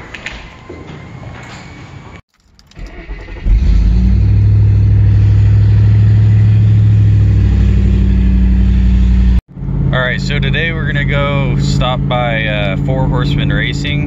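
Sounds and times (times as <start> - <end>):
car engine starting and idling: 2.3 - 14.0.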